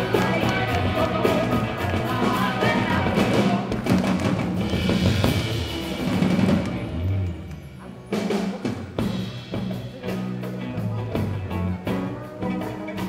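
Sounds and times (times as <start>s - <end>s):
drum kit and percussion: 0.0s - 13.0s
live band playing: 0.0s - 13.0s.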